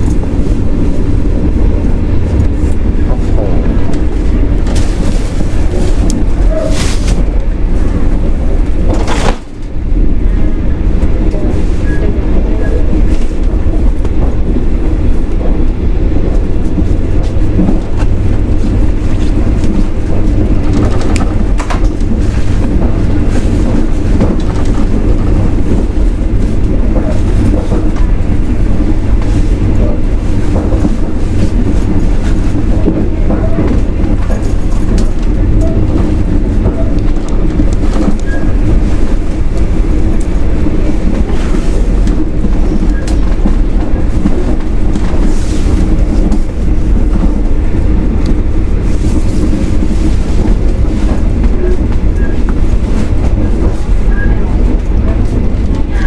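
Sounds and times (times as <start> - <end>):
train rumbling and rattling: 0.0 - 56.0.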